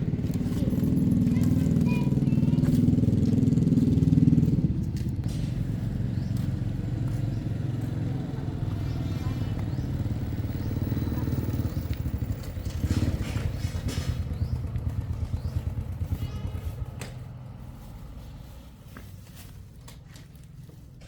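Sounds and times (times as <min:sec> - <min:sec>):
engine running with low pulsing: 0:00.0 - 0:19.8.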